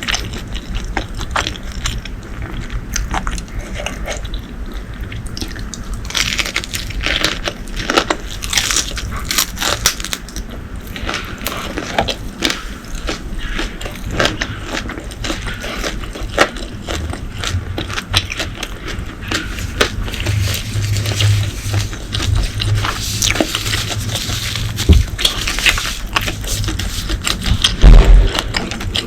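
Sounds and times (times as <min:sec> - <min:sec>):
crunching fried food: 0:00.0 - 0:29.0.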